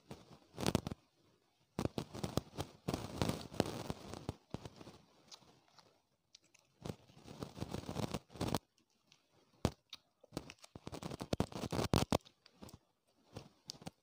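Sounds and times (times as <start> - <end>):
plastic wrappers crinkling: 1.8 - 14.0.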